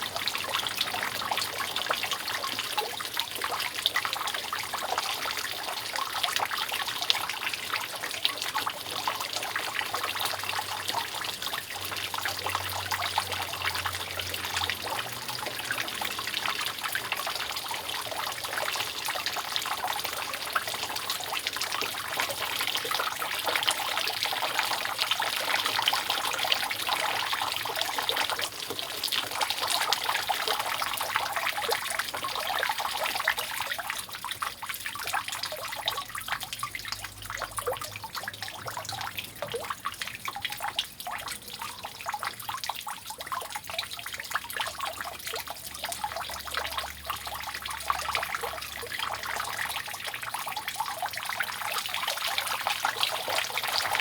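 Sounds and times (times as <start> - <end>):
rainwater dripping off roof: 0.0 - 54.0.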